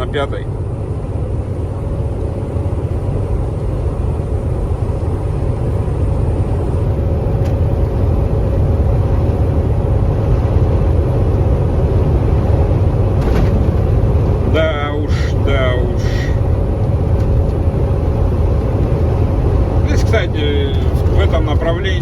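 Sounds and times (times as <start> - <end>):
diesel truck engine drone: 0.0 - 22.0
wind and road noise: 0.0 - 22.0.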